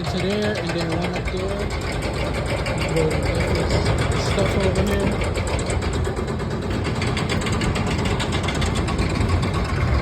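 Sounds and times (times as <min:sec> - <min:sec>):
pulsing machinery drone: 0:00.0 - 0:10.0.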